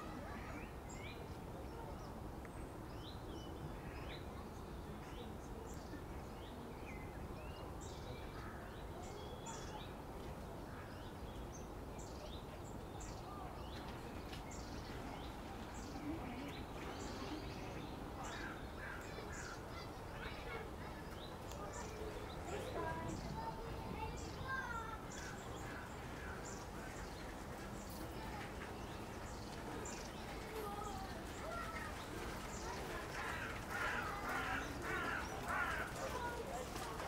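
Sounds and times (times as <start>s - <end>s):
low background noise: 0.0s - 37.0s
small birds chirping: 0.0s - 37.0s.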